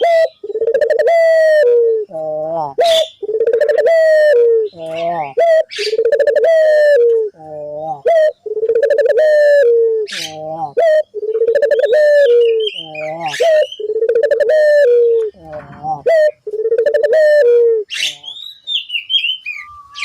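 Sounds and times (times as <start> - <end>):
dove cooing: 0.0 - 18.4.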